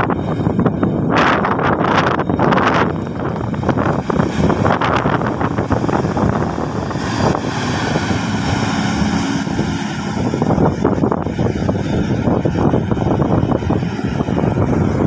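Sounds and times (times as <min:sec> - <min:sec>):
bus diesel engine passing: 0:00.0 - 0:15.0.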